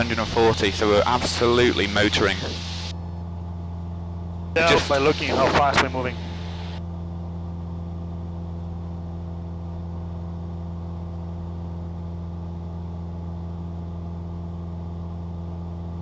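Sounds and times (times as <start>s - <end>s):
airplane engine droning: 0.0s - 16.0s.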